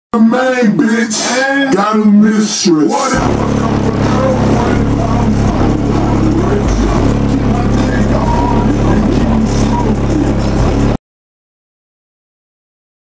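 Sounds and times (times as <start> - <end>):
car stereo heavy bass music: 0.2 - 11.0.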